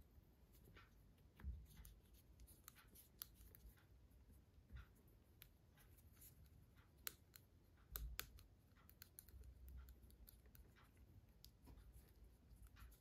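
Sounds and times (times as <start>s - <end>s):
faint clicks and scrapes of pin tool: 0.4s - 13.0s.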